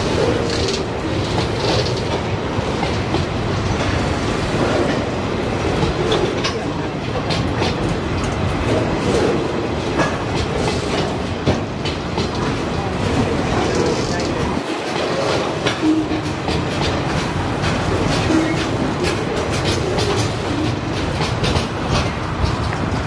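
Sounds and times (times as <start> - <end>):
freight train wagons rolling: 0.0 - 23.0
wheels clicking over rail joints: 0.0 - 23.0.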